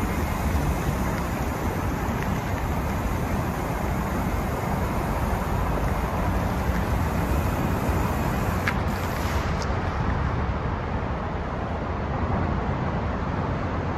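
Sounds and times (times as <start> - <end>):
vehicle road and wind noise: 0.0 - 13.9.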